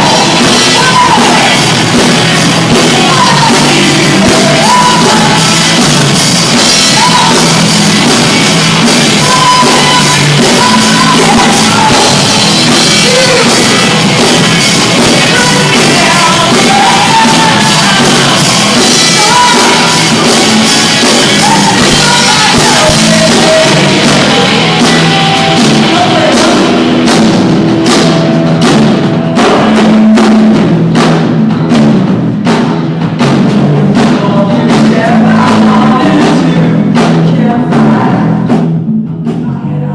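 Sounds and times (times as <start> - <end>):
drum hits: 0.0 - 39.4
live pop-rock band with singing: 0.0 - 39.9.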